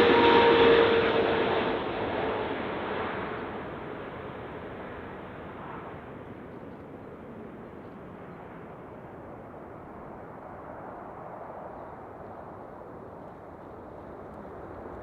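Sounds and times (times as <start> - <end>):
jet airliner engine roar: 0.0 - 15.0.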